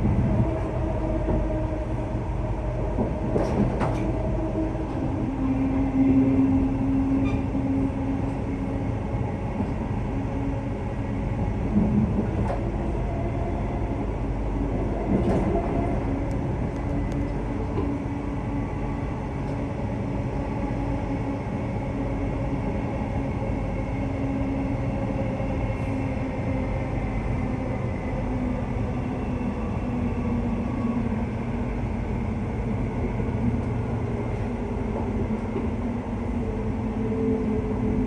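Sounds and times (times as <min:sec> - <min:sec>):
electric train cabin rumble: 0:00.0 - 0:38.0.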